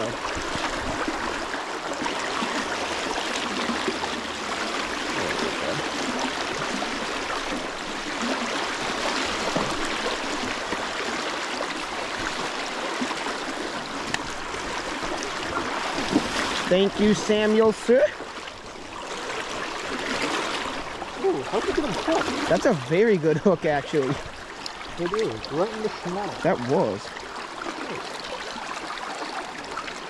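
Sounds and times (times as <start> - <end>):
river rushing and splashing: 0.0 - 30.0.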